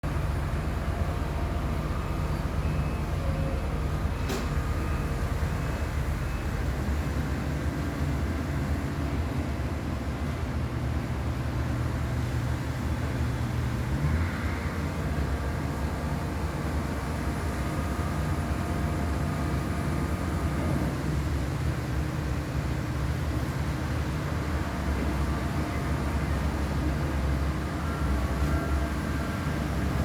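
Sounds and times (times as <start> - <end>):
excavator rumbling: 0.0 - 30.0.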